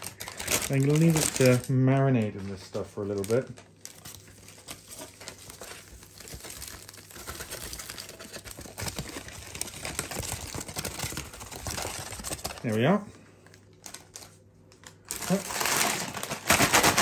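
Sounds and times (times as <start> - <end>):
paper bag crinkling: 0.0 - 17.0.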